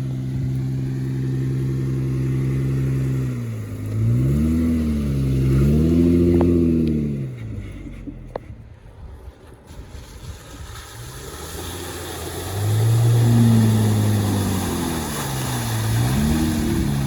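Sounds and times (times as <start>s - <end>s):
car engine revving: 0.0s - 8.4s, 10.9s - 17.0s.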